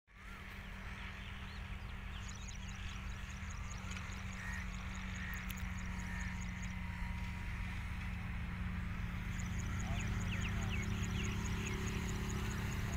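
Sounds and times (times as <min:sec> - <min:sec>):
birds chirping: 0:00.1 - 0:12.9
distant diesel locomotive drone: 0:00.1 - 0:12.9.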